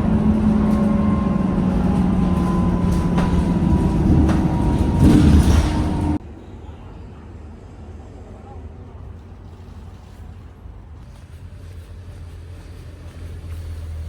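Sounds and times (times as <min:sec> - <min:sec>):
moving vehicle rumble and hum: 0:00.0 - 0:06.2, 0:07.9 - 0:14.0.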